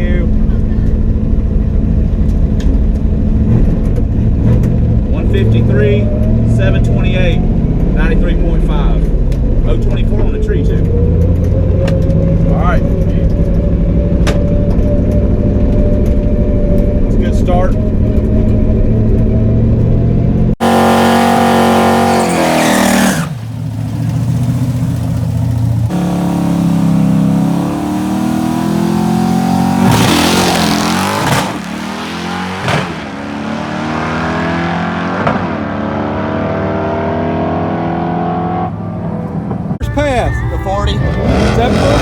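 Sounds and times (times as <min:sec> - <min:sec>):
car engine at full throttle: 0:00.0 - 0:42.0.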